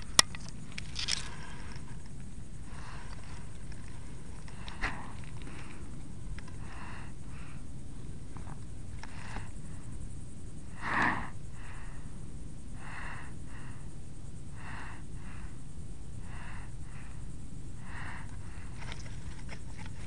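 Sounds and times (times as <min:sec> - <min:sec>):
tortoise breathing puffs: 0:00.0 - 0:20.0.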